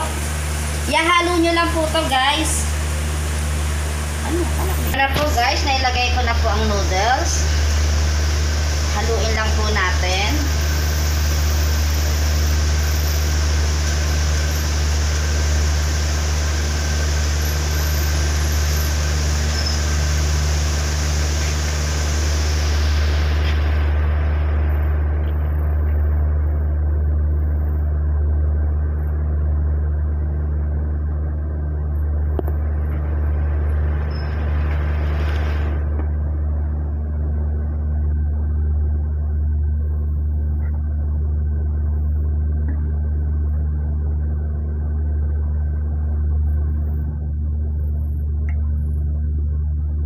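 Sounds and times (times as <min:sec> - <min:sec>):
low rumbling hum: 0:00.0 - 0:50.0.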